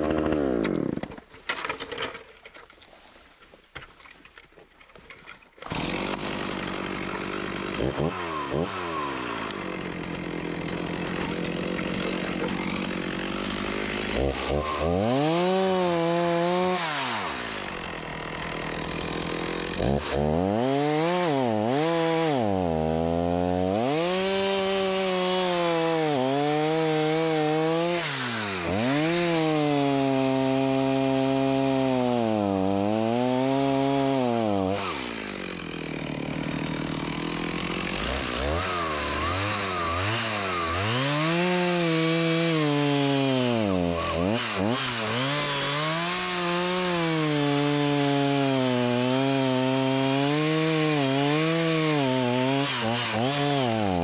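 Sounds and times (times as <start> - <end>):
chainsaw cutting wood: 0.0 - 2.9, 3.7 - 54.0.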